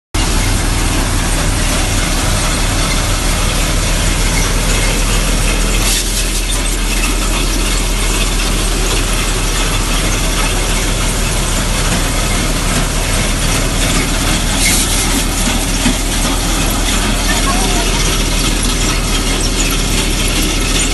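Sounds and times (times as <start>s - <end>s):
grain thresher clattering: 0.2s - 20.9s.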